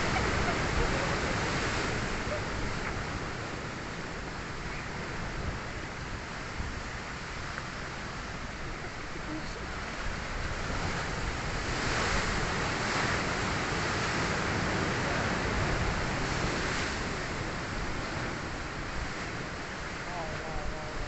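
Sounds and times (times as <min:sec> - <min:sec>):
waves breaking against rocks: 0:00.0 - 0:21.0
wind on microphone: 0:00.0 - 0:21.0.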